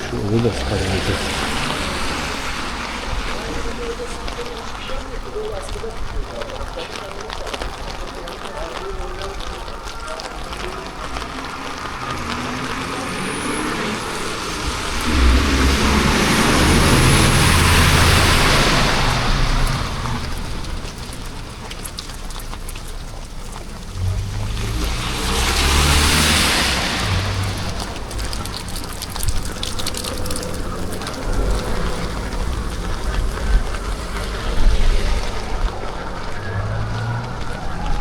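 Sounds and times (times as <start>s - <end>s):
tyres hissing on wet road: 0.0s - 38.0s
vehicle engines running: 0.0s - 38.0s.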